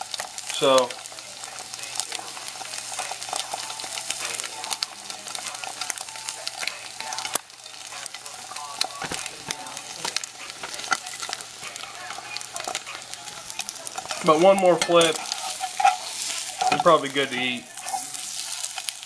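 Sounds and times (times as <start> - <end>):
egg sizzling in a frying pan: 0.0 - 19.0.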